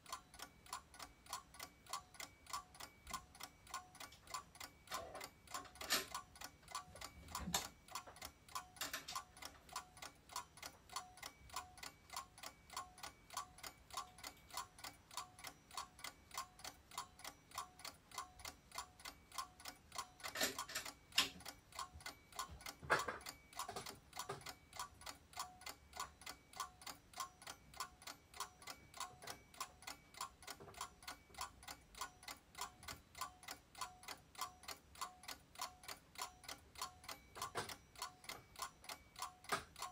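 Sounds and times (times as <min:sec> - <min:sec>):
clockwork ticking: 0:00.0 - 0:39.9.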